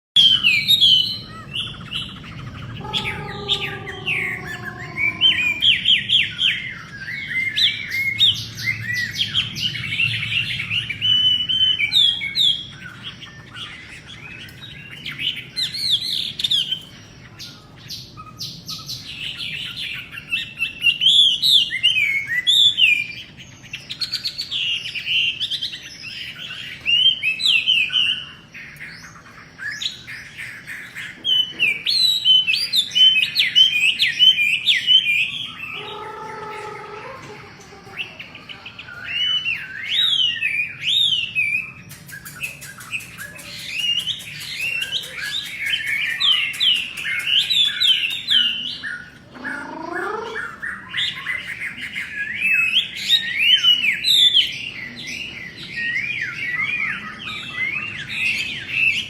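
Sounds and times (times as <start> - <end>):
songbird chattering song: 0.2 - 59.0.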